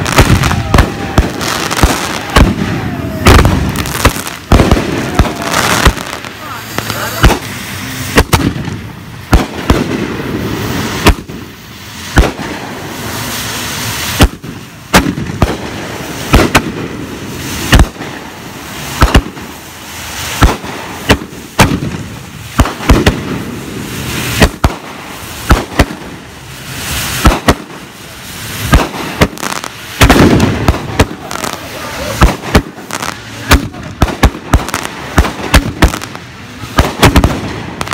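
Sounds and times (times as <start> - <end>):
continuous noisy rush: 0.0 - 37.9
fireworks bangs: 0.0 - 37.9.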